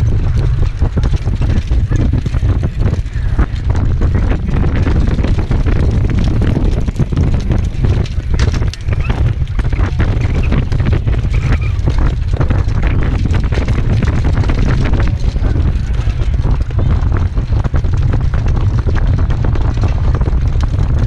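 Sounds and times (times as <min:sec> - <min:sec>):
hooves and cart clattering on dirt: 0:00.0 - 0:21.0
wind rushing over microphone: 0:00.0 - 0:21.0.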